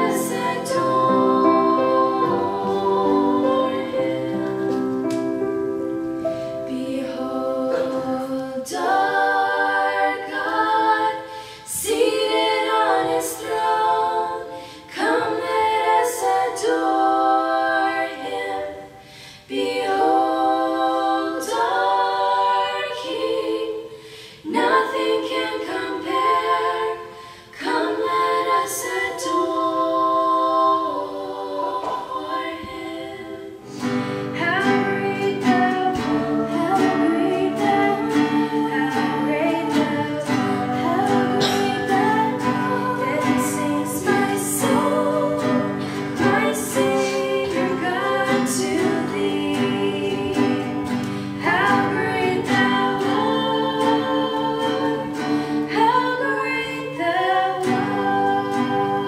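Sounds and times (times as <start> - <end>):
acoustic guitar: 0.0 - 59.0
girls singing in parts: 0.0 - 59.0.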